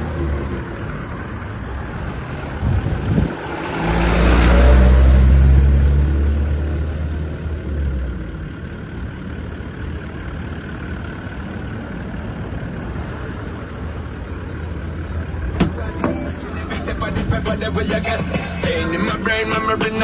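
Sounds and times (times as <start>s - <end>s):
heavy vehicle engine rumbling: 0.0s - 20.0s.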